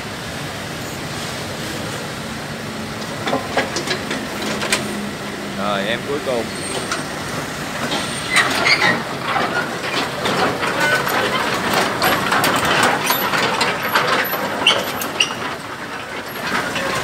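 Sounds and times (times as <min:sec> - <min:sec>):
excavator tracks clanking on steel: 0:01.8 - 0:17.0.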